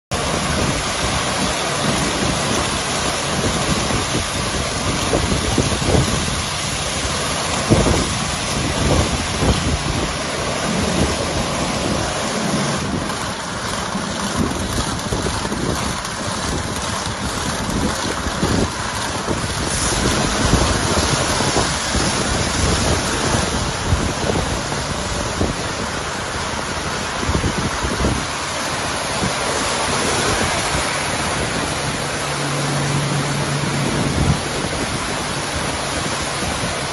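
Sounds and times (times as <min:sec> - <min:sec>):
water spraying: 0:00.1 - 0:36.9.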